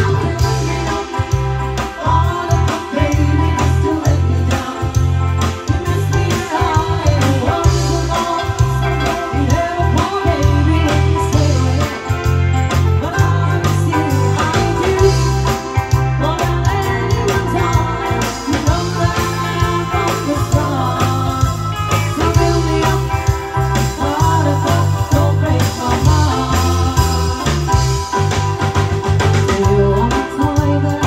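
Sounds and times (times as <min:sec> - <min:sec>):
person singing: 0:00.0 - 0:28.2, 0:29.4 - 0:31.0
bass guitar: 0:00.0 - 0:31.0
drums: 0:00.0 - 0:31.0
electric guitar: 0:00.0 - 0:31.0
keyboard: 0:00.0 - 0:31.0.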